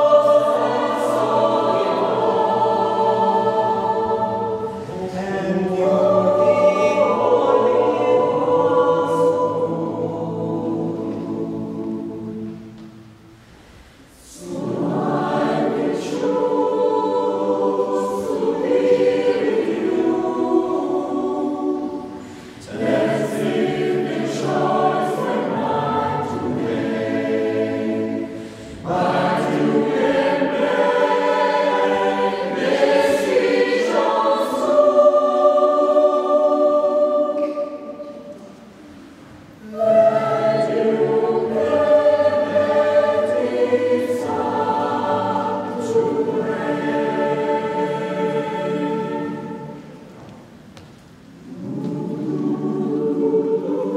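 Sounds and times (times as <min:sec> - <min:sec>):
mixed choir singing: 0:00.0 - 0:50.6, 0:51.2 - 0:53.9.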